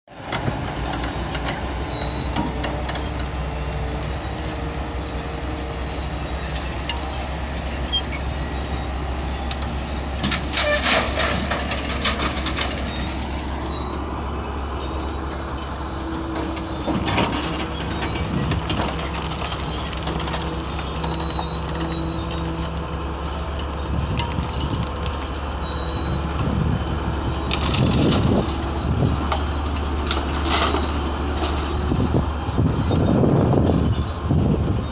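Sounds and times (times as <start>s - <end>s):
heavy vehicle engine running: 0.1s - 34.9s.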